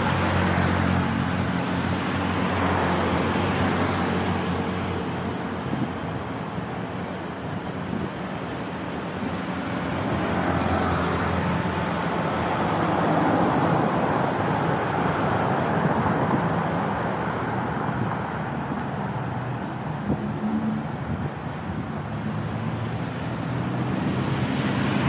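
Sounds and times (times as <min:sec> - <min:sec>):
vehicles passing on street: 0:00.0 - 0:25.0.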